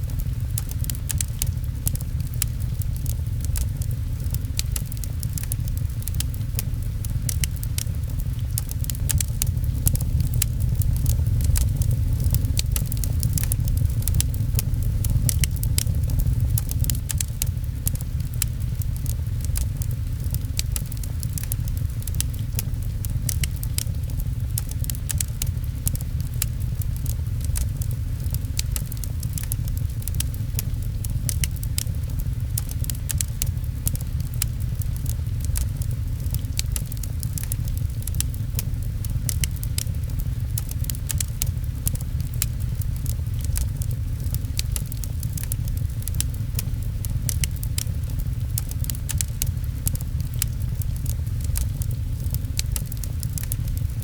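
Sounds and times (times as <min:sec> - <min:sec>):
low rumble: 0:00.0 - 0:54.0
rain pattering: 0:00.0 - 0:54.0
wood fire crackling: 0:00.0 - 0:54.0.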